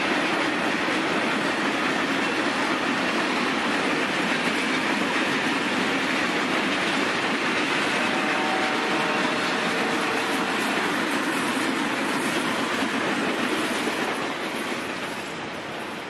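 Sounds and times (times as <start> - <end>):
train wagons rumbling on rails: 0.0 - 16.0.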